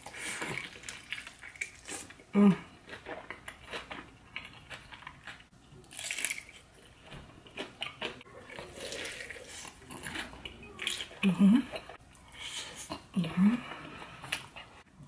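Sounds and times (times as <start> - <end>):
crunching and chewing: 0.0 - 13.1.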